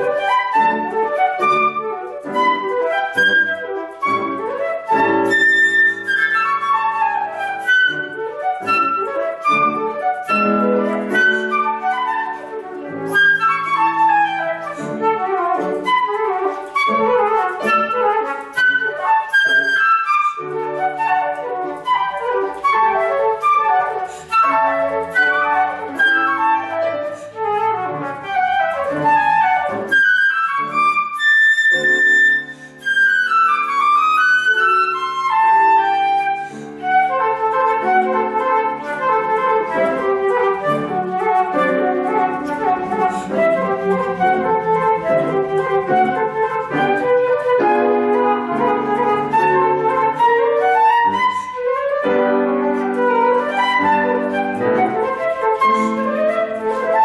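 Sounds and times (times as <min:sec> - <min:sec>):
flute playing quick runs: 0:00.0 - 0:57.0
piano accompaniment: 0:00.0 - 0:57.0.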